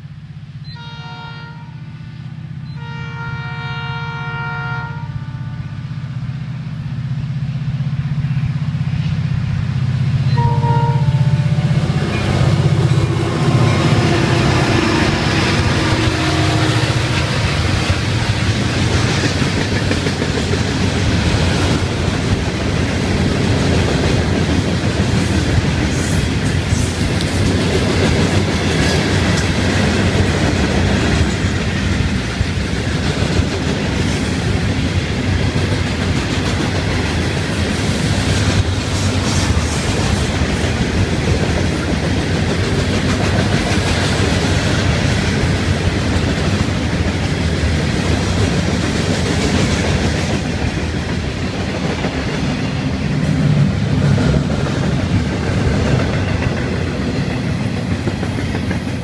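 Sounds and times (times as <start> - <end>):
freight train wheels clattering: 11.5 - 59.0.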